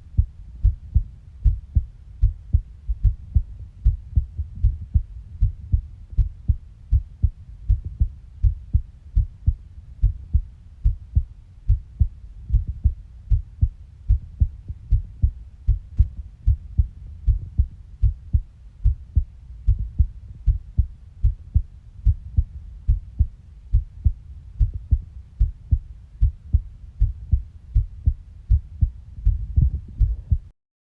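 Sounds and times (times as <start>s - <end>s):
heartbeat thumps: 0.0s - 30.5s.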